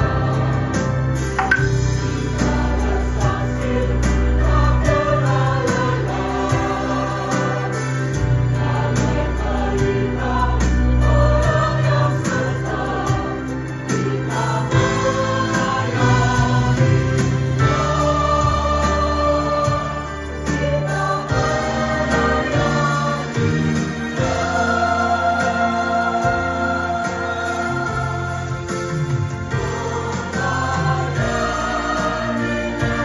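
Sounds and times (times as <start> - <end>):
band accompaniment with bass and beat: 0.0 - 33.0
choir singing gospel song: 0.0 - 33.0.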